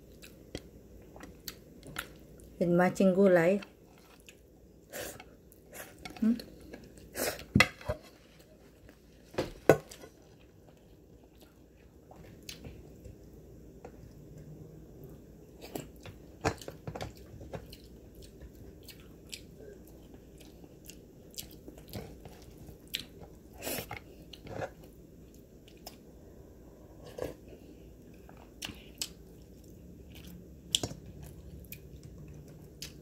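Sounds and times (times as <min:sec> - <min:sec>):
person chewing food: 0:00.0 - 0:02.6, 0:03.6 - 0:09.2, 0:09.8 - 0:33.0.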